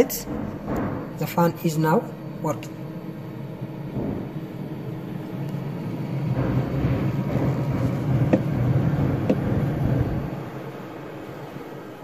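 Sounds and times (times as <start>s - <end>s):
refrigerator fan whirring: 0.0s - 12.0s.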